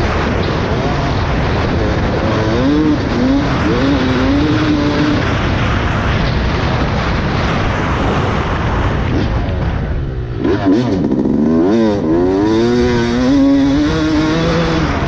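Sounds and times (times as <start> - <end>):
dirt bike engine revving: 0.0 - 15.0
wind rush on microphone: 0.0 - 15.0.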